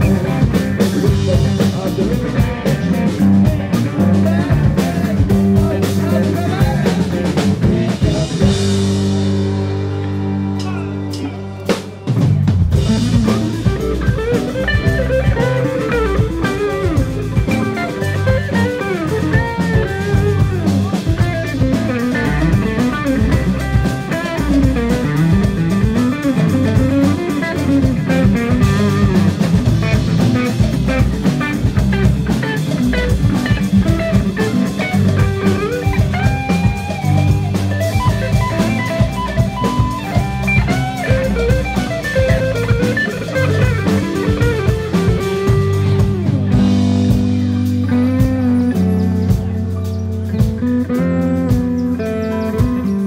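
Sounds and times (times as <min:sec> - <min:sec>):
bass guitar: 0:00.0 - 0:53.0
drum kit: 0:00.0 - 0:53.0
electric guitar lead: 0:00.0 - 0:53.0.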